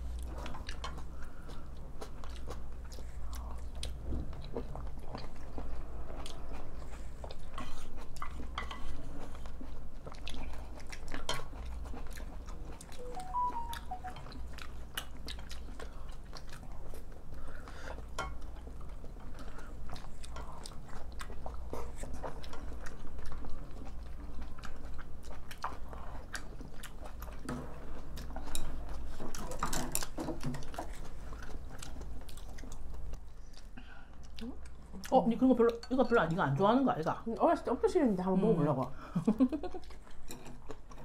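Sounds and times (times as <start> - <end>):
chewing and mouth sounds: 0.0 - 36.6, 38.9 - 41.0.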